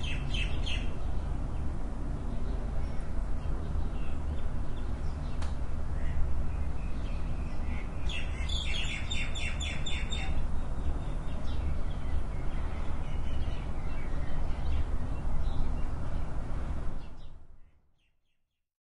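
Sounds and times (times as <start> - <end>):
songbirds chirping: 0.0 - 18.1.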